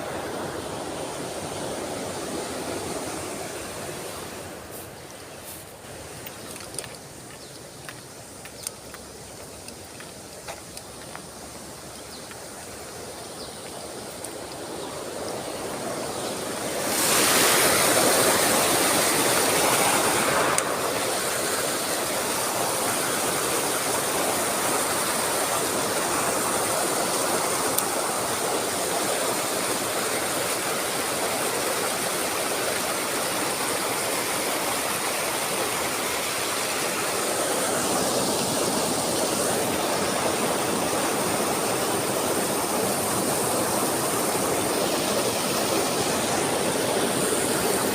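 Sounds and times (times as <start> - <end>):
rushing stream water: 0.0 - 47.9.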